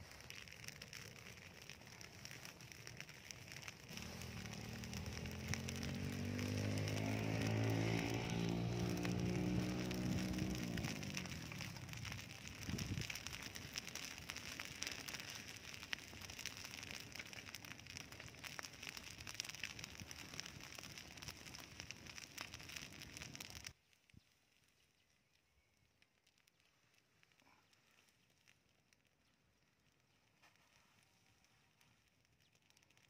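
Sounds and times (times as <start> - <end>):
straw burning and crackling: 0.0 - 33.0.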